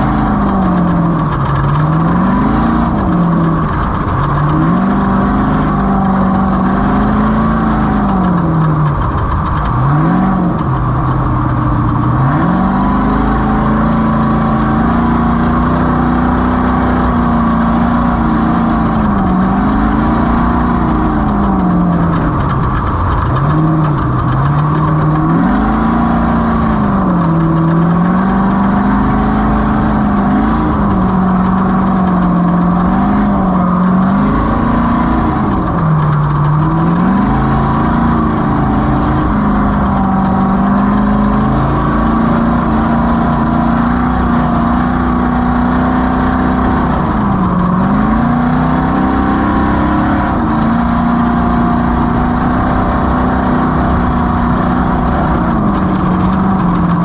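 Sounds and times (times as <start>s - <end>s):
race vehicle engine revving: 0.0s - 57.0s.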